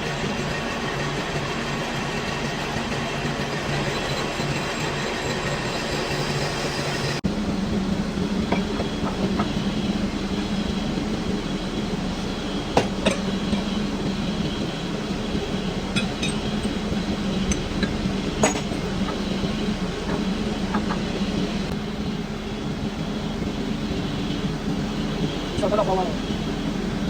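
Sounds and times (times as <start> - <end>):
lathe humming: 0.0 - 27.0.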